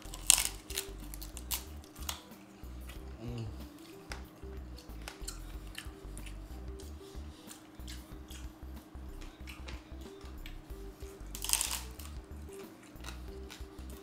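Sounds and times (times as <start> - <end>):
background music with low beat: 0.0 - 14.0
crunchy chewing: 0.0 - 14.0.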